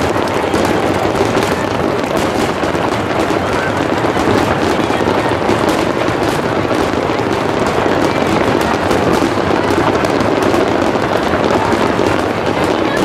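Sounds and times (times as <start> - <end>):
fireworks bursting: 0.0 - 13.0
sharp fireworks crackles: 0.0 - 13.0.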